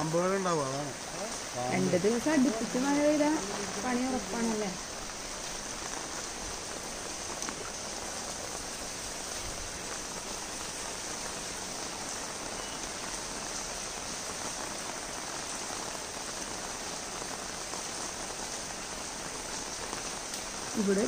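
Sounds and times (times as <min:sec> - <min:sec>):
rain falling on water: 0:00.0 - 0:21.0.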